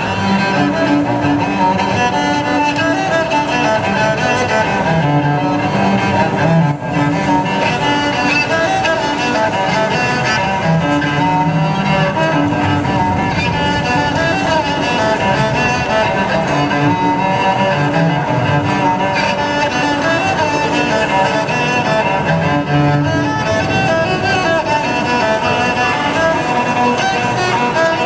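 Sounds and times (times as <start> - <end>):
bowed cello melody: 0.0 - 28.0.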